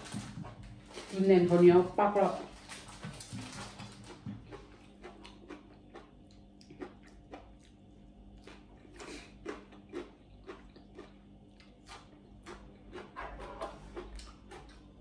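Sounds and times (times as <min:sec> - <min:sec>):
faint steady hum: 0:00.0 - 0:15.0
person chewing: 0:02.7 - 0:15.0.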